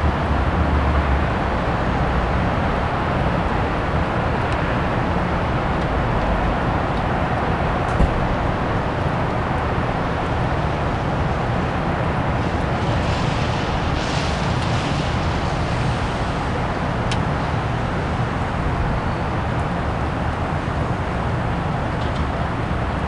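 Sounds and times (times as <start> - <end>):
outdoor rumble and hiss: 0.0 - 23.0.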